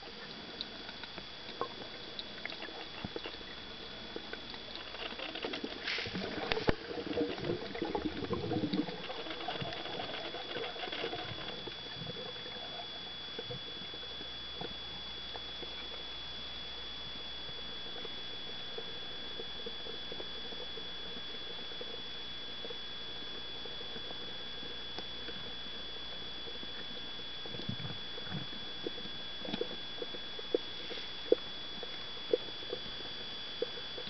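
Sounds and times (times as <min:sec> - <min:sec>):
muffled underwater rumbling: 0:00.0 - 0:34.0
small underwater clicks and crackles: 0:00.0 - 0:34.0.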